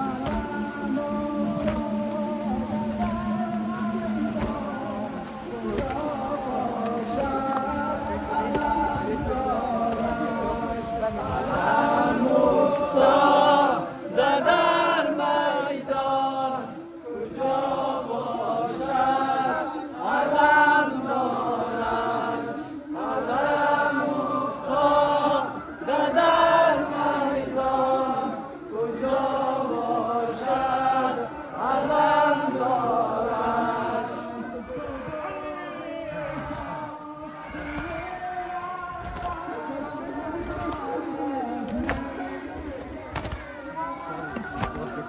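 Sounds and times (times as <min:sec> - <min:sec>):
men chanting a mourning lament: 0:00.0 - 0:45.0.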